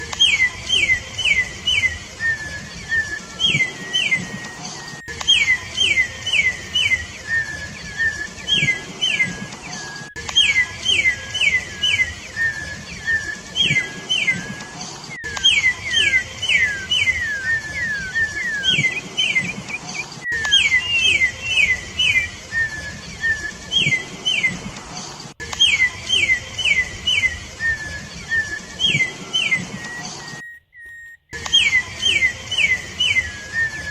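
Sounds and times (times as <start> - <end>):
bird whistling song: 0.0 - 33.9.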